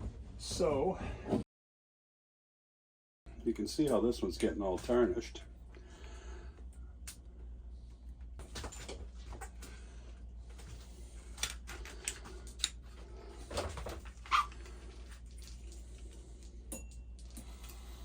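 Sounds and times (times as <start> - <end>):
steady low hum: 3.3 - 18.0.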